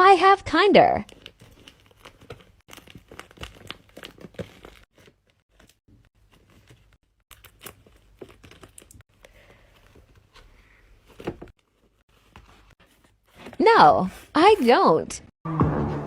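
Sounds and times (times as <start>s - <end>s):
paper crinkling and rustling: 1.0s - 14.7s.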